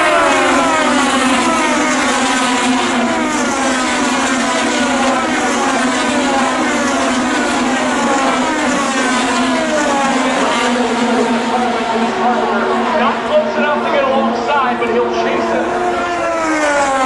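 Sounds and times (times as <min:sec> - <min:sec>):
race cars passing at full throttle: 0:00.0 - 0:17.0.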